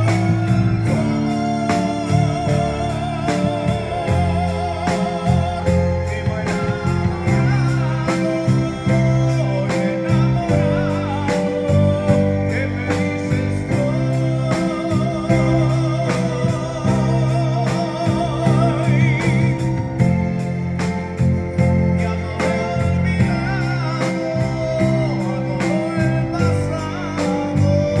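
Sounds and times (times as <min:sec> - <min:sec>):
electric bass low notes: 0:00.0 - 0:28.0
keyboards: 0:00.0 - 0:28.0
lead melody with heavy vibrato: 0:00.0 - 0:28.0
steady drum beat: 0:00.0 - 0:28.0.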